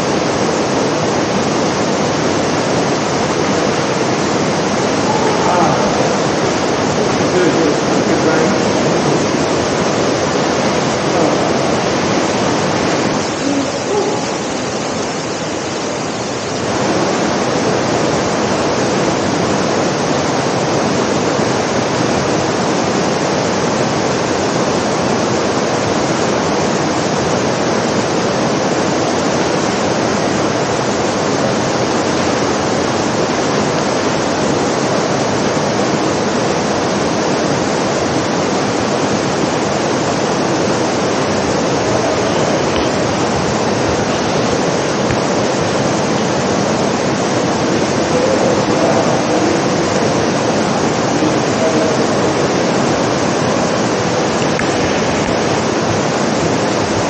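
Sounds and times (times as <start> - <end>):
artificial rain falling: 0.0 - 57.0.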